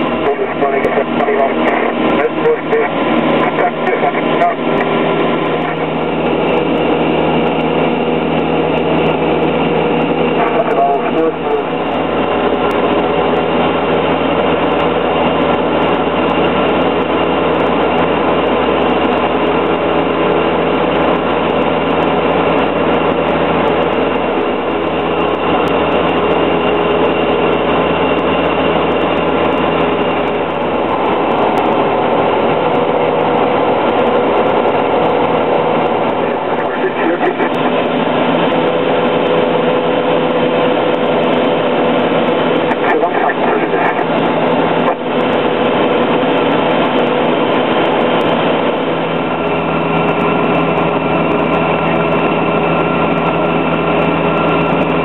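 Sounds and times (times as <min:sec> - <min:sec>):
aircraft engine and propeller droning: 0:00.0 - 0:55.0.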